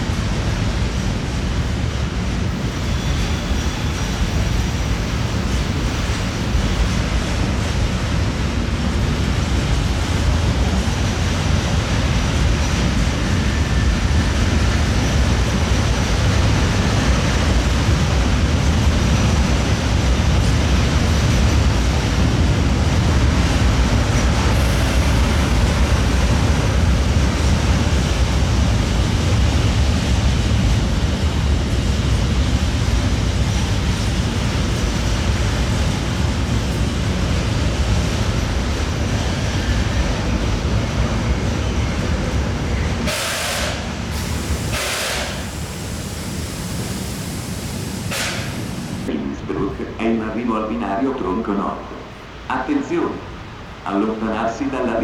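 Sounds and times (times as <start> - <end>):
freight train wheel rumble: 0.0 - 55.0.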